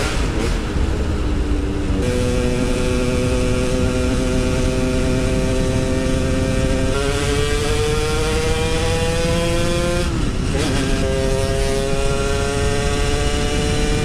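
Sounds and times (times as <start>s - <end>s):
two-stroke motorcycle engine revving: 0.0s - 14.0s.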